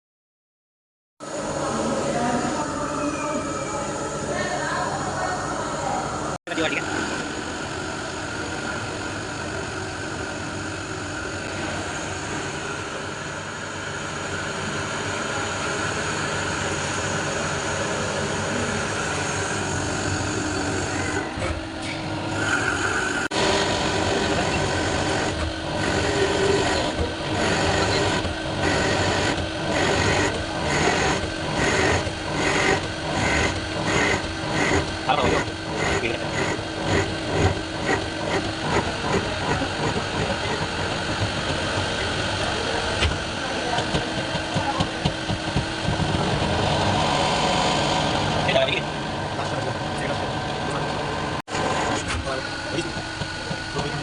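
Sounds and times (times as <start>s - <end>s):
lathe machining noise: 6.1s - 54.0s.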